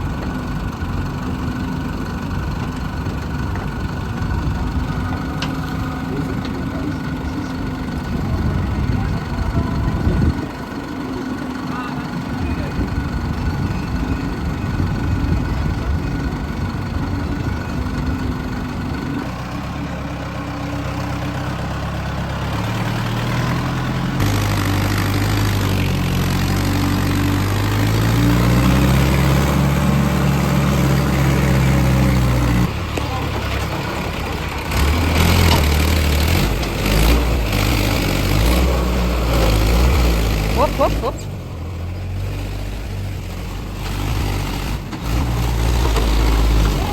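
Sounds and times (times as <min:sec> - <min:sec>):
heavy diesel engine revving: 0:00.0 - 0:46.9.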